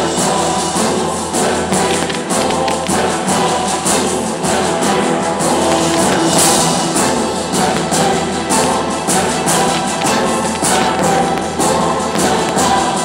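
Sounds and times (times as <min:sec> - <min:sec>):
loud music with steady beat: 0:00.0 - 0:13.0.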